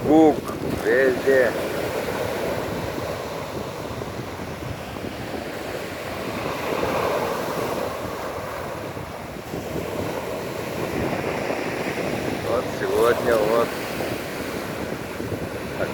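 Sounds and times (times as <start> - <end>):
stormy sea surf breaking: 0.0 - 15.9
wind on microphone: 0.0 - 15.9.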